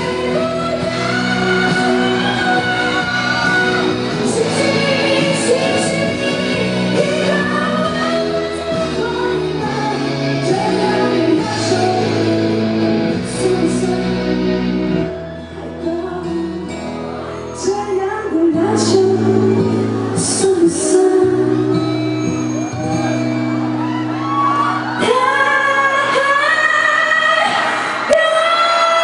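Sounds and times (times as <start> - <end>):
woman singing: 0.0 - 22.4, 24.7 - 29.0
live pop band: 0.0 - 29.0.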